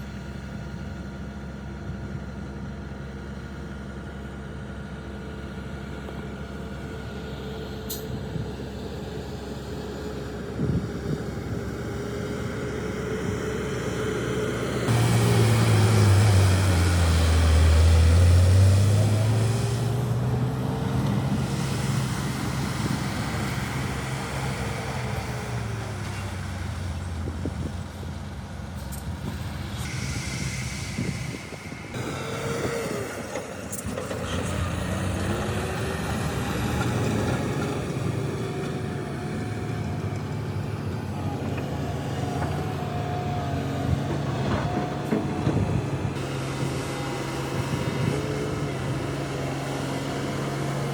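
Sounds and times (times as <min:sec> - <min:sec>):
diesel machinery engine running: 0:00.0 - 0:50.9.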